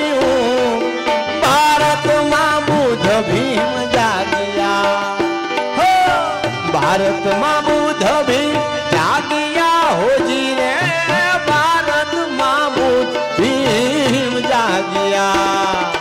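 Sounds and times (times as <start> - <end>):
harmonium chords: 0.0 - 16.0
man singing: 0.0 - 16.0.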